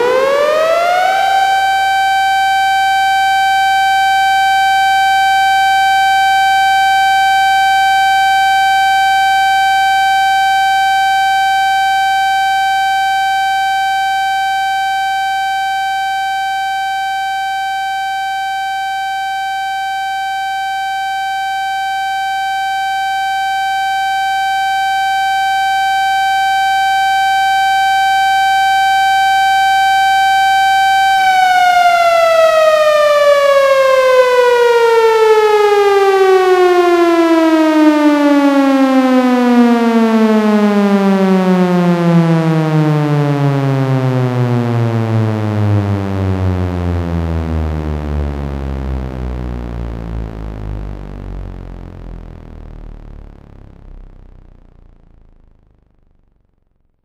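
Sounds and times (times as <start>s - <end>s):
emergency siren steady tone: 0.0s - 55.8s.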